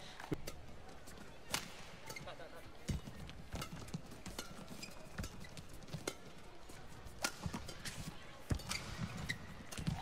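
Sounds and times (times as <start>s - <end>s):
rackets hitting shuttlecock: 0.2s - 0.8s, 1.4s - 10.0s.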